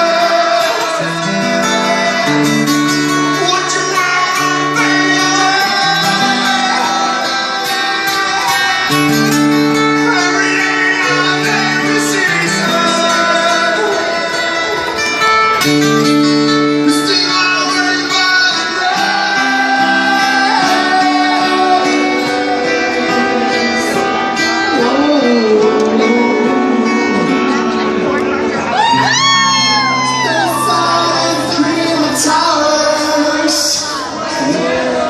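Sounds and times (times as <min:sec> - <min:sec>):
song with guitar: 0:00.0 - 0:35.0.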